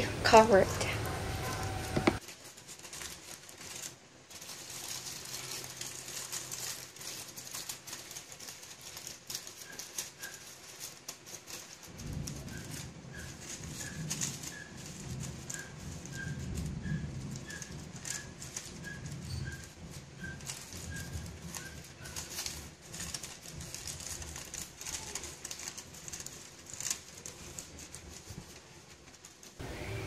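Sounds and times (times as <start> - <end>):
aluminium foil crinkling: 0.0 - 29.6.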